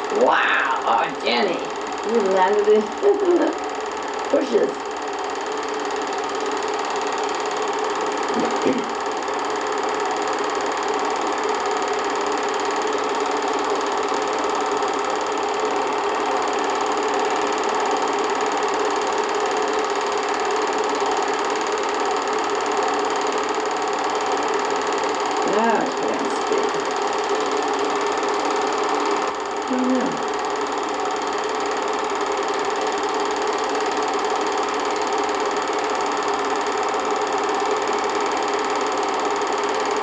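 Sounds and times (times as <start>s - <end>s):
film projector whirring: 0.0s - 40.0s.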